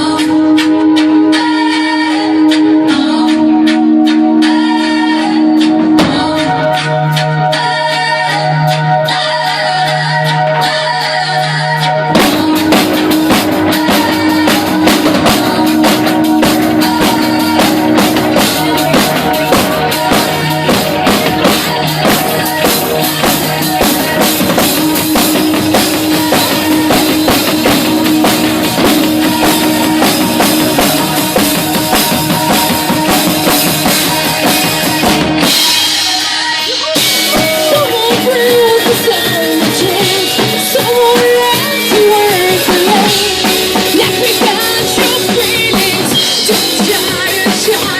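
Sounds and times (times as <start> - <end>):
band playing instrumental music: 0.0 - 47.9
drum kit beat: 0.0 - 47.9
wavering lead melody: 0.0 - 47.9.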